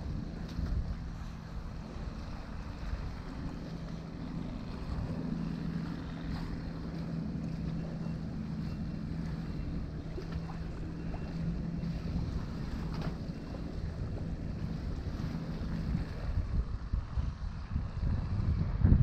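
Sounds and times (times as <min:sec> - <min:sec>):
boat engine humming: 0:00.0 - 0:19.0
water around hull: 0:00.0 - 0:19.0
wind buffeting microphone: 0:00.0 - 0:19.0.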